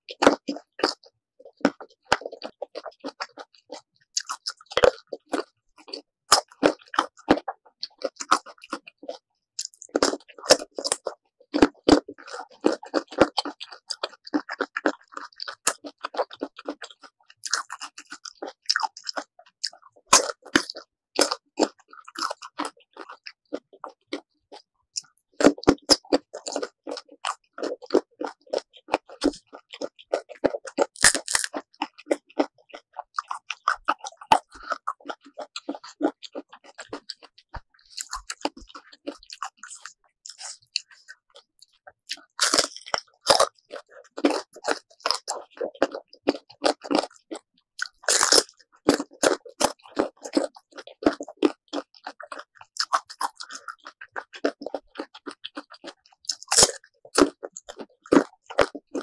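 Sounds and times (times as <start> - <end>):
crunchy chewing: 0.1 - 59.0.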